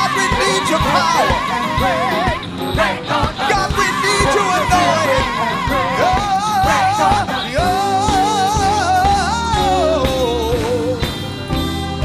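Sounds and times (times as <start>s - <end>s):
person singing with vibrato: 0.0s - 11.2s
band accompaniment: 0.0s - 12.0s.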